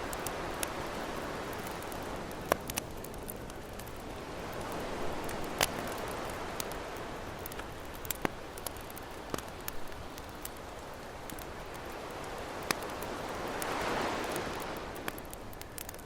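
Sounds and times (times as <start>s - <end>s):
campfire crackling and popping: 0.0s - 16.0s
ocean waves washing: 0.0s - 16.0s.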